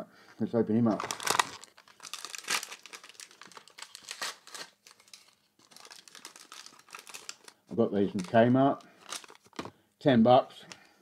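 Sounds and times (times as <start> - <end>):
packaging wrapper crinkling: 0.9 - 9.7.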